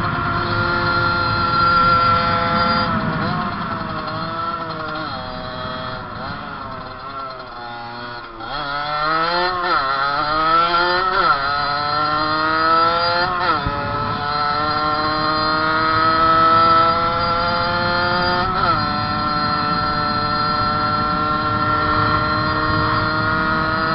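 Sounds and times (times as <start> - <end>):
moped engine shifting gears: 0.0 - 23.9.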